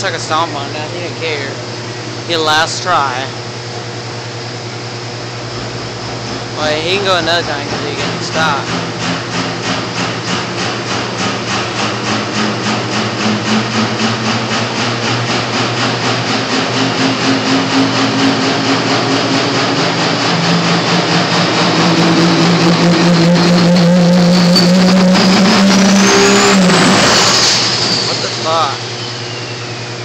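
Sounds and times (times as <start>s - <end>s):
diesel engine revving: 0.0s - 30.0s.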